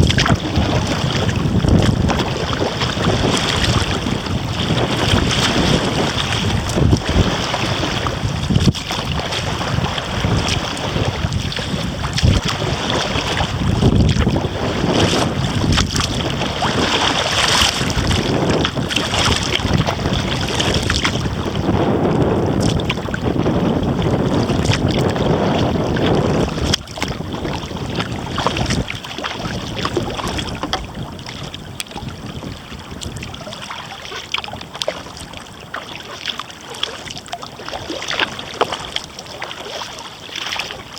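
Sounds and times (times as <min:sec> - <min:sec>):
water splashing against kayak: 0:00.0 - 0:40.9
wind buffeting microphone: 0:00.0 - 0:40.9.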